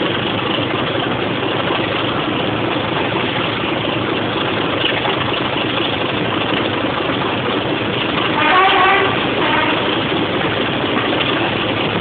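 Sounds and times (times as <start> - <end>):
diesel locomotive engine: 0.0 - 12.0.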